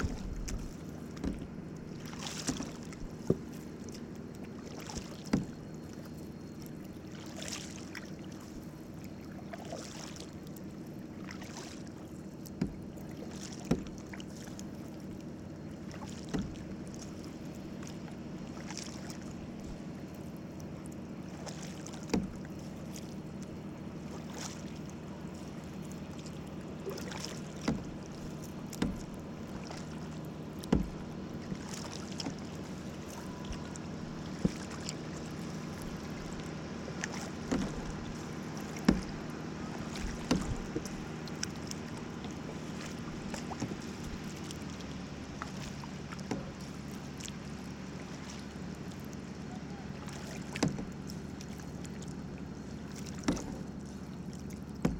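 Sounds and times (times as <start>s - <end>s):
paddle knocking against hull: 0.0s - 8.4s, 11.2s - 54.9s
paddle swishing through water: 0.0s - 54.9s
steady low hum: 0.0s - 54.9s.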